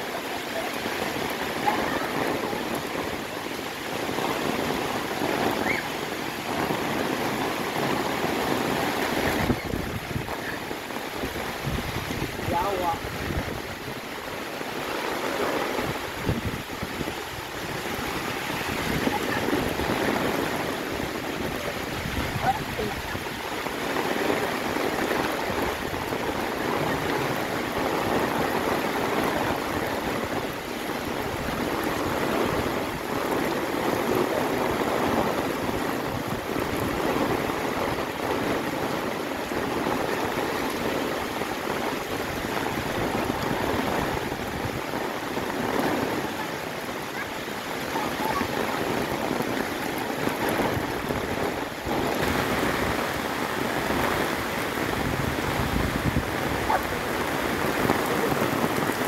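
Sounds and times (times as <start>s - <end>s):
heavy rain on foliage: 0.0s - 59.0s.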